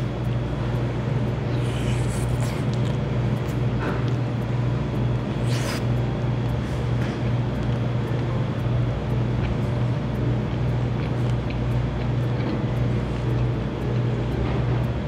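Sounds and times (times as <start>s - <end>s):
crunchy chewing: 1.2s - 4.3s, 5.0s - 15.0s.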